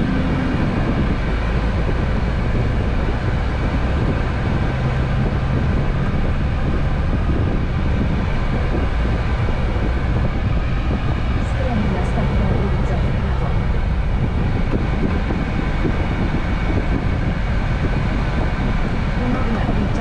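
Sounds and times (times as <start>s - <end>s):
road and tyre noise: 0.0s - 20.0s
truck diesel engine droning: 0.0s - 20.0s.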